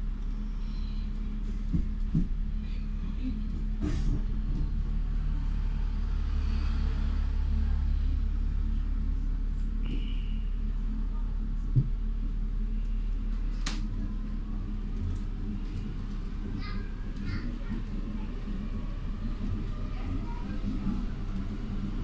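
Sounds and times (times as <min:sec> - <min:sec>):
train rumbling along track: 0:00.0 - 0:22.0.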